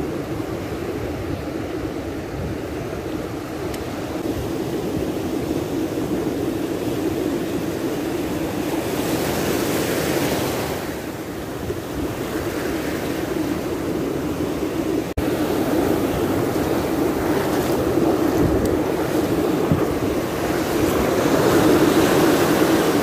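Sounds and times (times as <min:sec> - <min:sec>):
ocean surf washing: 0:00.0 - 0:23.0
wind rumble on microphone: 0:00.0 - 0:23.0.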